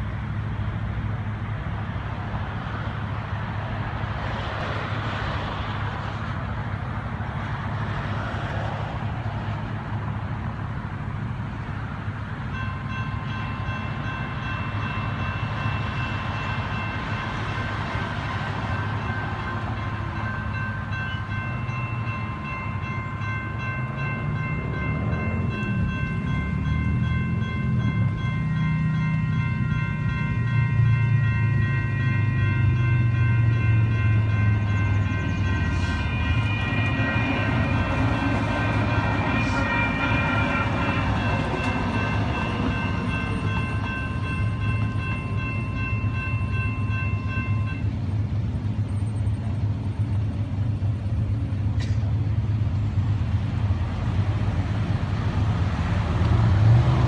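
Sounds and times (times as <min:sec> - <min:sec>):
railroad crossing bells ringing: 0:00.0 - 0:04.4, 0:05.5 - 0:57.0
light rail train humming: 0:00.0 - 0:57.0
road traffic: 0:00.0 - 0:57.0.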